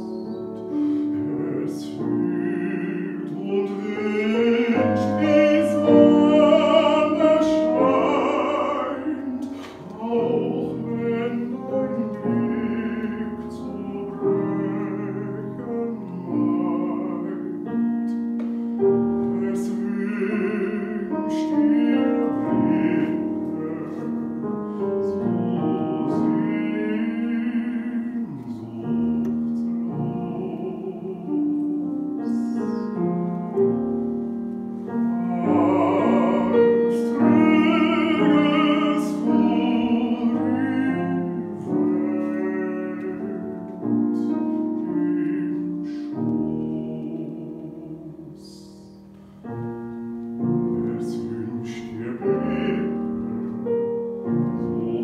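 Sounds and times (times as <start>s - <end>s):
baritone singing with vibrato: 0.0s - 49.6s, 50.6s - 55.0s
grand piano: 0.0s - 55.0s.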